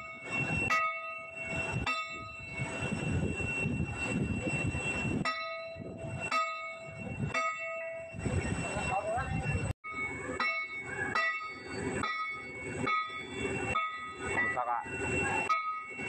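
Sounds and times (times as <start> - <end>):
bell-like ringing of chisel: 0.0 - 16.0.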